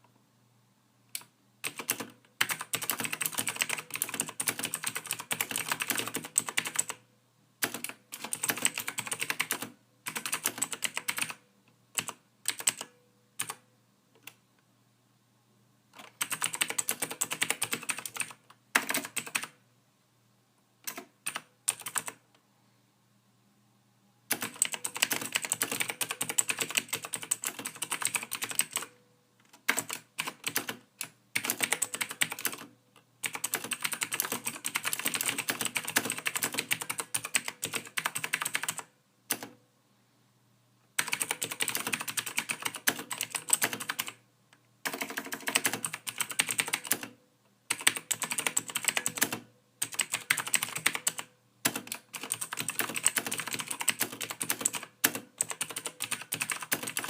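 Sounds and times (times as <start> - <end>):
computer keyboard typing: 1.2 - 7.0, 7.6 - 13.6, 16.0 - 19.6, 20.8 - 22.2, 24.3 - 39.6, 41.0 - 44.2, 44.8 - 57.0.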